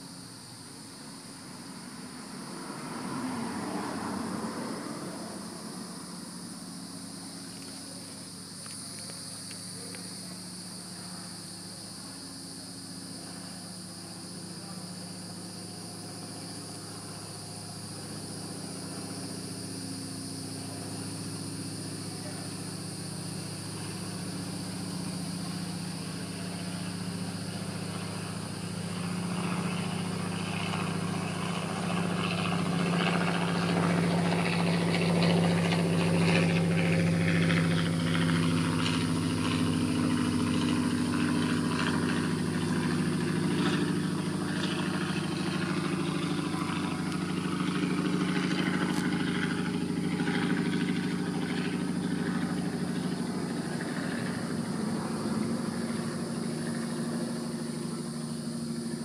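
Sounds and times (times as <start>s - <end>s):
motor engine humming: 0.0s - 59.0s.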